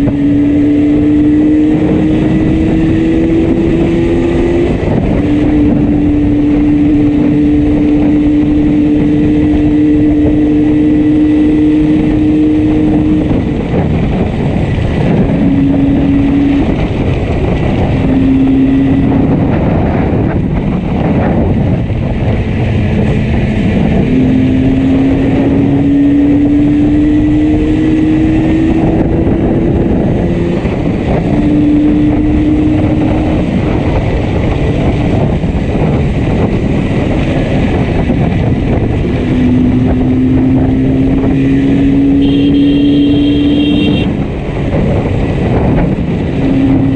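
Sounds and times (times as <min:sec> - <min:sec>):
heavy wind noise: 0:00.0 - 0:46.9
misfiring two-stroke engine: 0:00.0 - 0:46.9.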